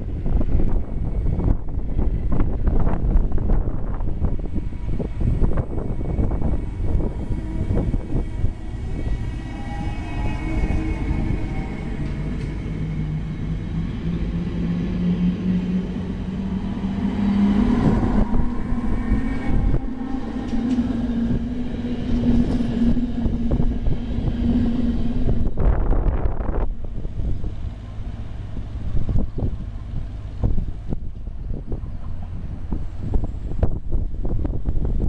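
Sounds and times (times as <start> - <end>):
electric train drive humming: 0.0 - 35.0
wheels rumbling on rail: 0.0 - 35.0.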